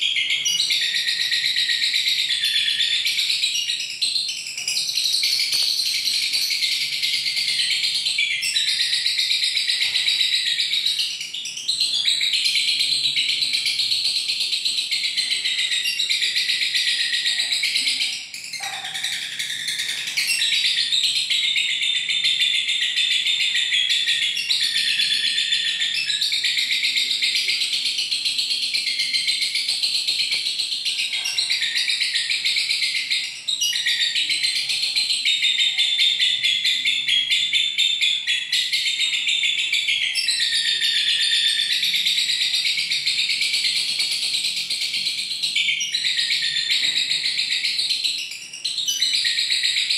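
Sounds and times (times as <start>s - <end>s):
lovebird high-pitched trilling chatter: 0.0s - 49.9s.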